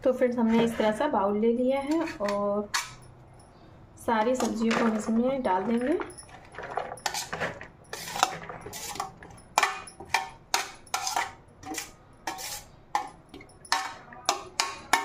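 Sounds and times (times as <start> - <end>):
spoon scraping a metal tray: 0.2 - 3.0, 4.3 - 15.0.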